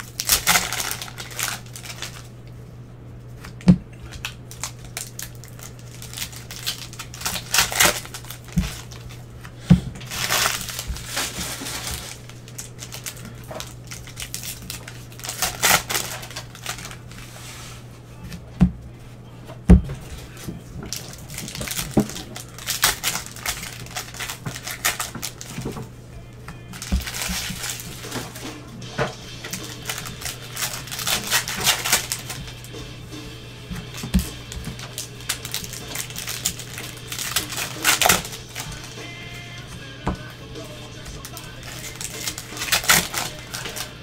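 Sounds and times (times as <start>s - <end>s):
foil wrappers crinkling and tearing: 0.0s - 2.5s, 3.3s - 17.9s, 20.0s - 44.0s
steady low hum: 0.0s - 44.0s.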